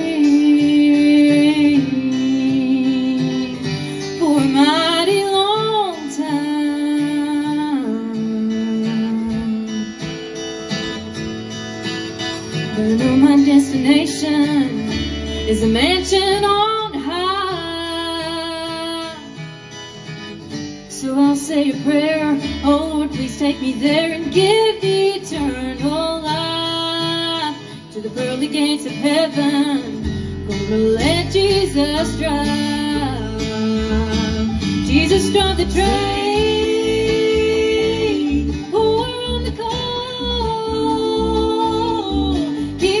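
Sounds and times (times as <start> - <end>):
bluegrass band playing: 7.8 - 43.0.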